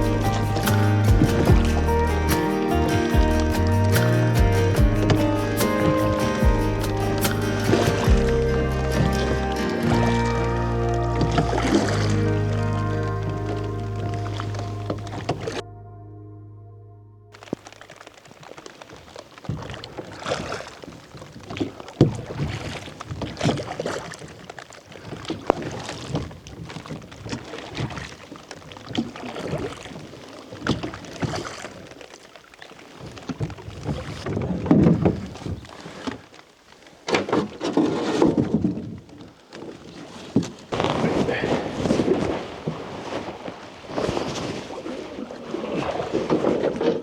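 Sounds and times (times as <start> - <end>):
oars splashing in water: 0.0 - 15.6, 17.4 - 47.0.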